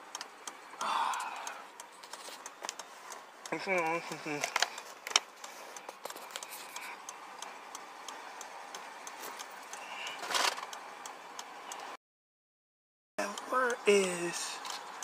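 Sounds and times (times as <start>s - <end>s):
light ticking and clicking: 0.0s - 12.0s, 13.2s - 15.0s.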